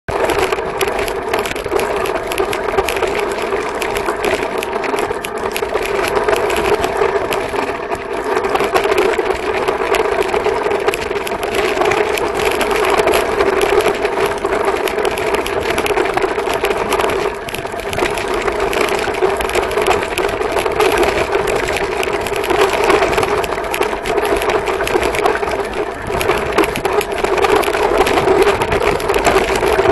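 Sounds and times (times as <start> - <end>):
constant hum: 0.1 - 29.9
sled runners scraping over snow: 0.1 - 29.9.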